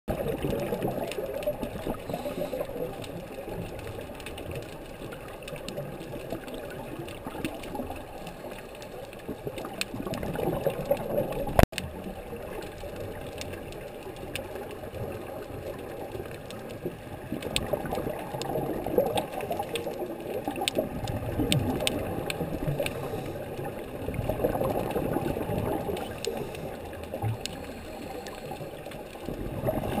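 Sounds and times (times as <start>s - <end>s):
faint underwater clicks: 0.1s - 30.0s
muffled underwater water wash: 0.1s - 30.0s.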